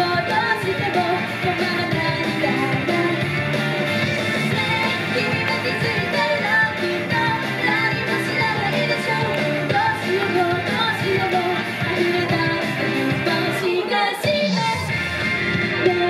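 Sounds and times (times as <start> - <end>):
women singing a pop song: 0.0 - 15.1, 15.7 - 16.0
instrumental accompaniment: 0.1 - 13.9.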